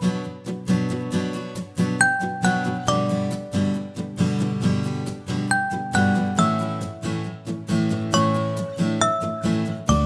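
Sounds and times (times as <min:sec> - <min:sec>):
light plucked melody: 0:00.0 - 0:10.0.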